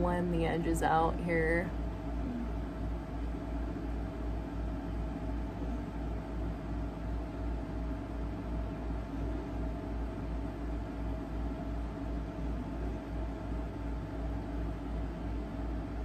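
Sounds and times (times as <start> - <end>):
faint steady whine: 0.0 - 16.0
pulsing low hum: 0.0 - 16.0.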